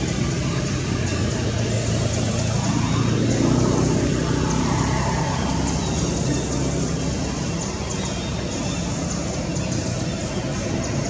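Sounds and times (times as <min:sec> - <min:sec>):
low rumbling traffic noise: 0:00.0 - 0:11.0.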